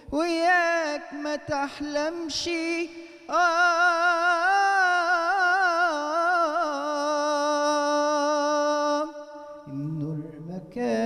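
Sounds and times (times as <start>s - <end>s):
man singing a long note: 0.0s - 11.0s.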